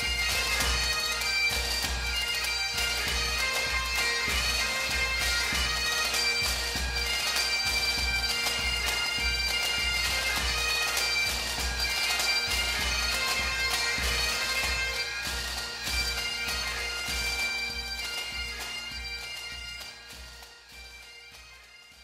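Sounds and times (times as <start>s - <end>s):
bagpipe melody over drone: 0.0s - 22.0s.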